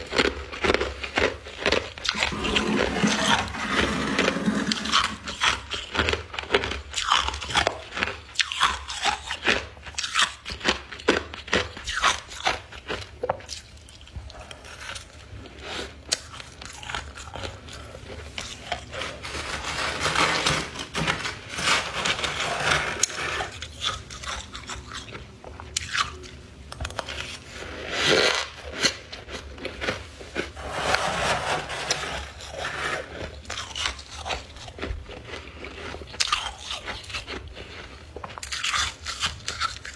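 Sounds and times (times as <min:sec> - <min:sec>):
chewing crunchy frost: 0:00.0 - 0:20.9, 0:21.7 - 0:30.6, 0:31.9 - 0:39.9.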